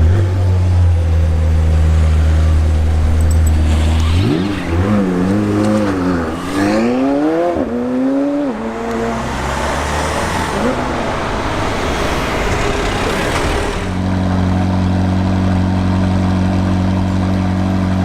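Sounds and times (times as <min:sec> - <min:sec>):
car engine revving and accelerating: 0:00.0 - 0:18.0.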